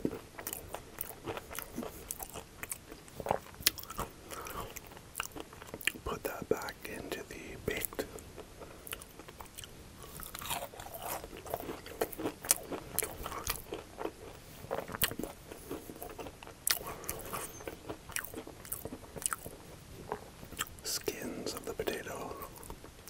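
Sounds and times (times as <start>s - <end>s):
chewing crispy food: 0.0s - 7.0s, 7.7s - 23.0s.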